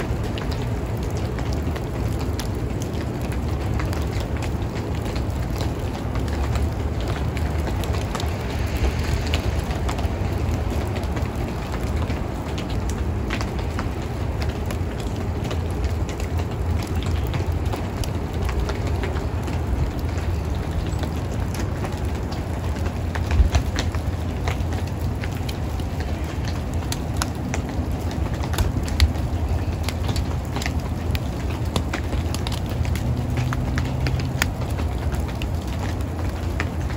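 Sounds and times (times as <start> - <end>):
light ticks of wet snow: 0.0 - 36.9.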